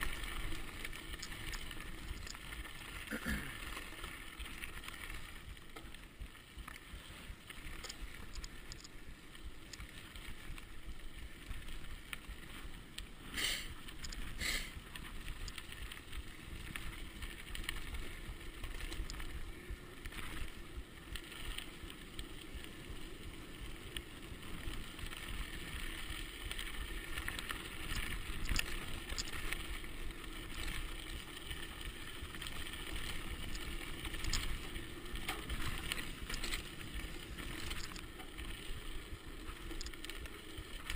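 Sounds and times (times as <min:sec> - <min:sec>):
bike tyres crunching on gravel: 0:00.0 - 0:40.9.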